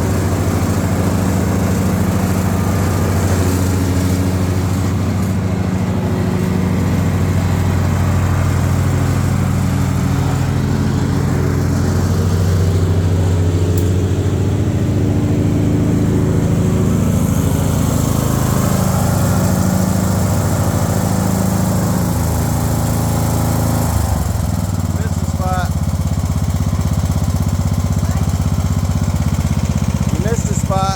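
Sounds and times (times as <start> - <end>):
riding lawnmower engine running: 0.0 - 30.9.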